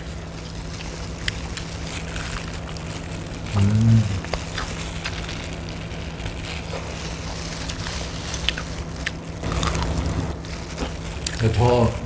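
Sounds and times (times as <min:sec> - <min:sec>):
crunching and chewing: 0:00.0 - 0:12.0
steady low hum: 0:00.0 - 0:12.0.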